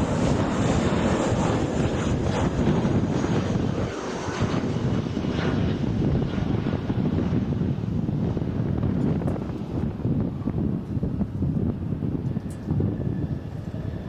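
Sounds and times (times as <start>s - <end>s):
jet airliner engines: 0.0s - 14.0s
wind buffeting microphone: 0.0s - 14.0s.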